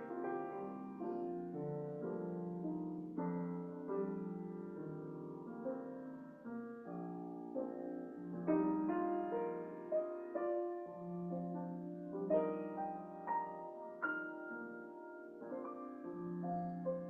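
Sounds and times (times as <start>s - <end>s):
slow quiet piano music: 0.0s - 17.0s.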